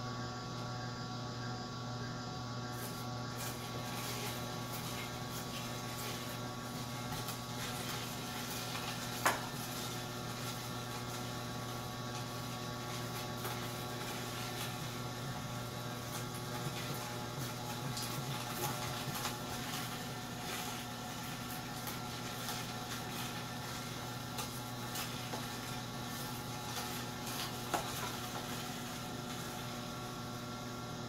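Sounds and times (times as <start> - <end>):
juicer motor humming: 0.0 - 31.0.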